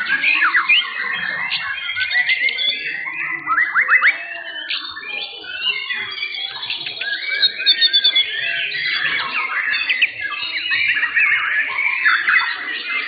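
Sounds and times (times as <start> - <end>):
birds singing whistles and trills: 0.0 - 13.0.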